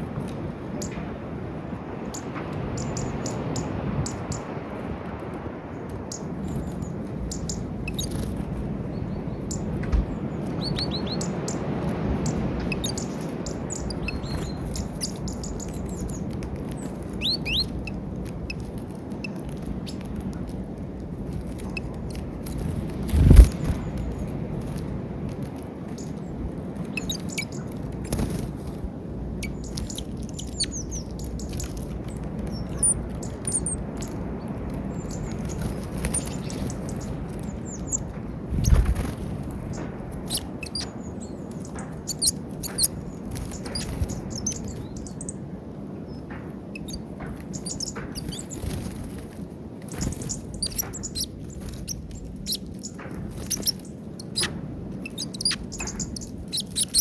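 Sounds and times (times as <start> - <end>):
low background rumble: 0.0 - 57.0
small birds chirping: 0.0 - 57.0.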